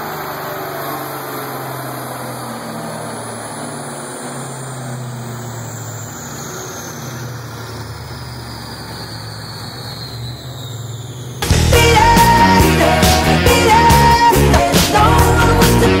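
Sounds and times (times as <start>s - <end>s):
car engine idling: 0.0s - 16.0s
faint high supercharger whine: 0.0s - 16.0s.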